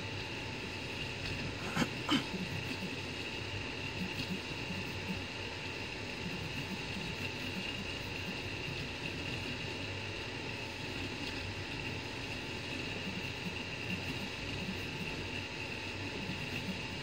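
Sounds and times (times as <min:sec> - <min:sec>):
fan whirring with high whine: 0:00.0 - 0:17.0
mechanical buzz of print head: 0:00.0 - 0:17.0.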